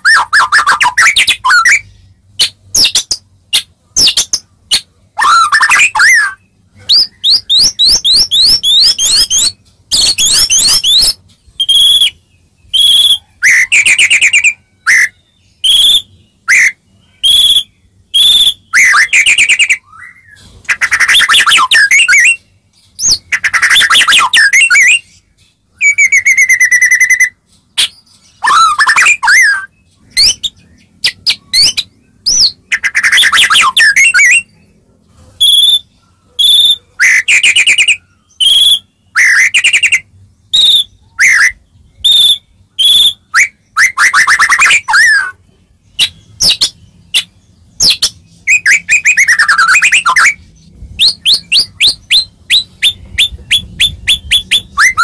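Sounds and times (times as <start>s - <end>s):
bird singing whistles and trills: 0.0s - 34.7s, 35.4s - 55.0s.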